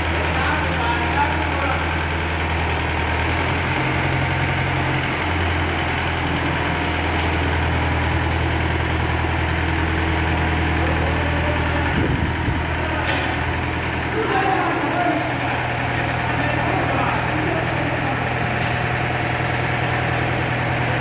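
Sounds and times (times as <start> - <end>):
crane diesel engine running: 0.0 - 21.0.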